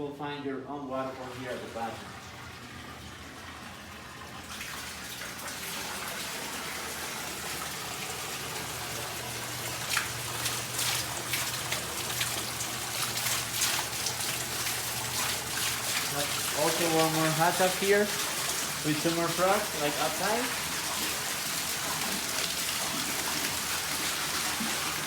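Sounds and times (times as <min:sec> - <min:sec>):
water rushing from indoor waterfall: 0:04.1 - 0:25.0
water splashing: 0:04.3 - 0:25.0.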